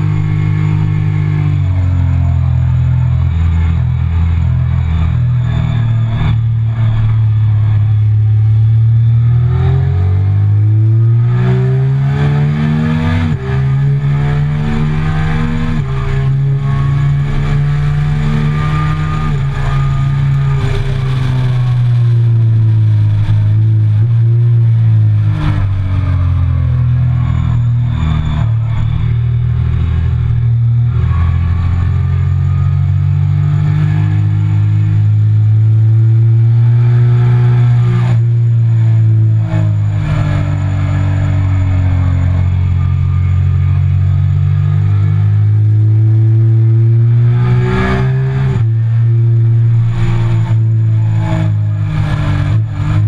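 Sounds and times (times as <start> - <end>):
motorcycle engine at full throttle: 0.0 - 53.0.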